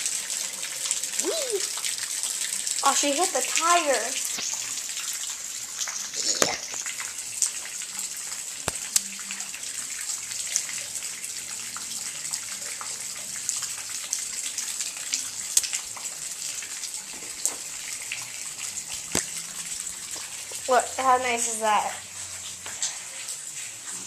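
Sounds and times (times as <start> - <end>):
rain on wet pavement: 0.0 - 24.0
raindrops ticking close by: 0.0 - 24.0.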